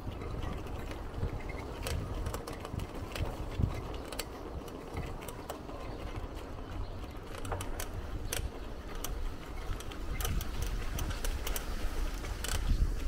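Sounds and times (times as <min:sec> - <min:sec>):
bicycle drivetrain clicks and rattles: 0:00.0 - 0:13.0
tyres and wind rumble: 0:00.0 - 0:13.0.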